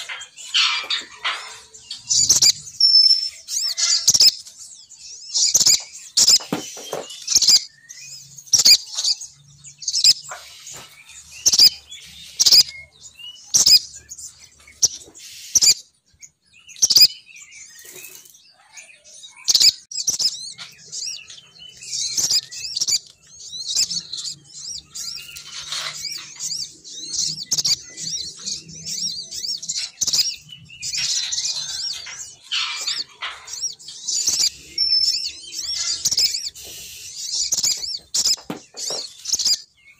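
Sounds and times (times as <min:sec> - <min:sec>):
bird chirping and chattering: 0:00.0 - 0:39.9.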